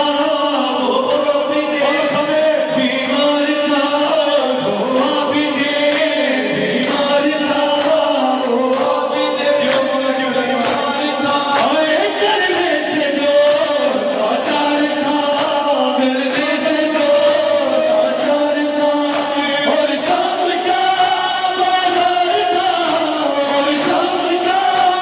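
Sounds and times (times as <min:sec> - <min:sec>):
man chanting a lament: 0:00.0 - 0:25.0.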